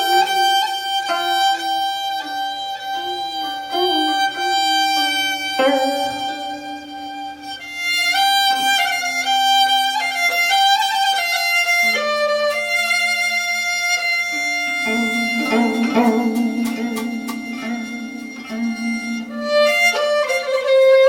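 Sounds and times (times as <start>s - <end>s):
bowed string instrument melody: 0.0s - 21.0s.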